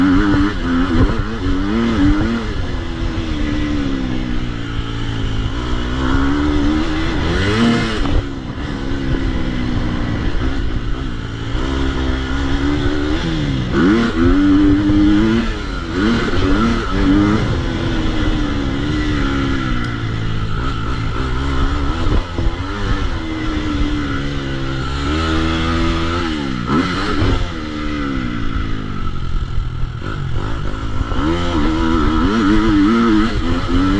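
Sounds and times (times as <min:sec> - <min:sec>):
motocross engine revving: 0:00.0 - 0:33.9.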